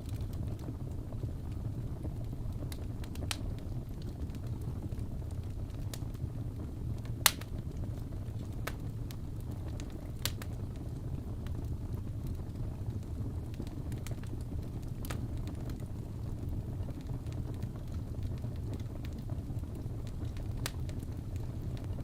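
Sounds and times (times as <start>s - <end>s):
fire crackles and pops: 0.0s - 22.0s
wood fire flames rumbling: 0.0s - 22.0s.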